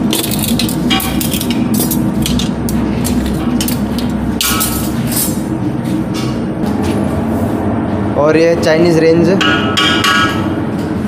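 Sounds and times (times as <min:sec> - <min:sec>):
kitchen equipment drone: 0:00.0 - 0:11.0.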